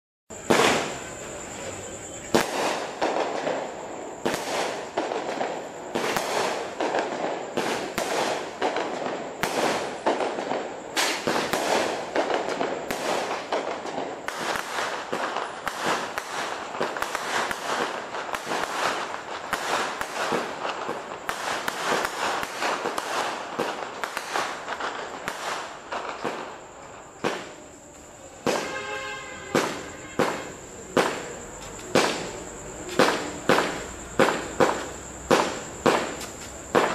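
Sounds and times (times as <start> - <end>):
crackling firework stars: 0.3 - 36.9
firework shots: 0.3 - 36.9.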